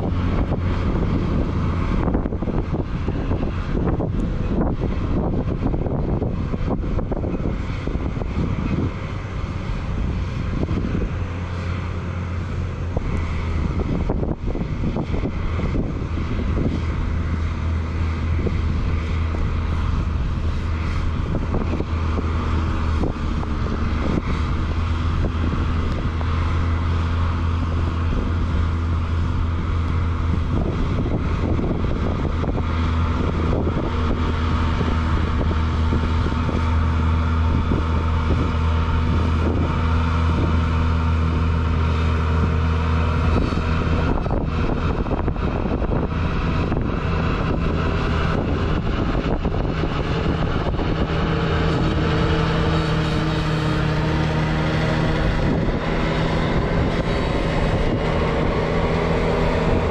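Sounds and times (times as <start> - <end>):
tractor diesel engine running: 0.0 - 59.9
wind noise on microphone: 0.0 - 59.9.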